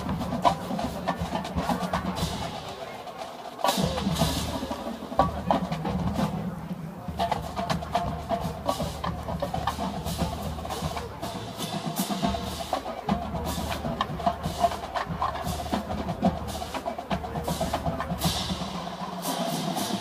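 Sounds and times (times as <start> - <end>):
drumline rapid strokes: 0.0 - 20.0
marching band playing: 0.0 - 20.0.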